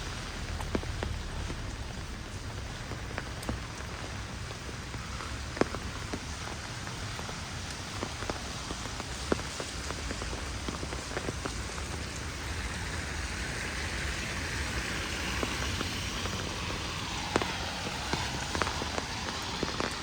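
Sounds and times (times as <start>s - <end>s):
heavy rain falling: 0.0s - 20.0s
raindrop ticks: 0.0s - 20.0s.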